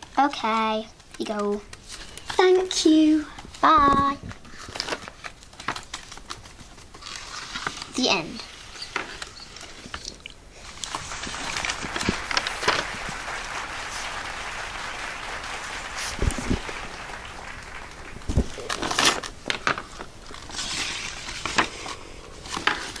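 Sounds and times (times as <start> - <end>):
paper and card rustling: 0.0 - 23.0.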